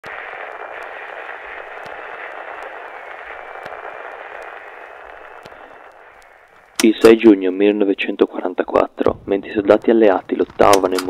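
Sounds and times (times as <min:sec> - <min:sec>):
radio static hiss: 0:00.0 - 0:11.0
static clicks: 0:00.0 - 0:11.0.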